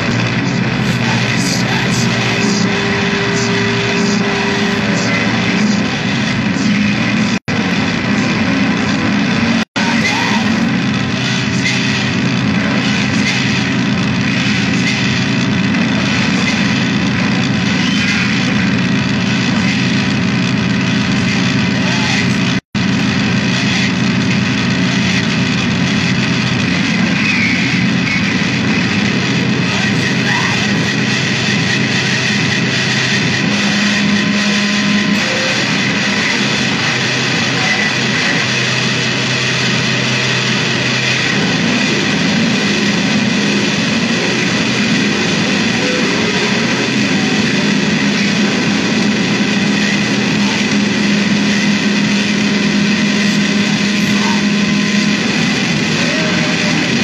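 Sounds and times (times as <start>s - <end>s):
distorted noise music: 0.0s - 57.0s
low drones: 0.0s - 57.0s.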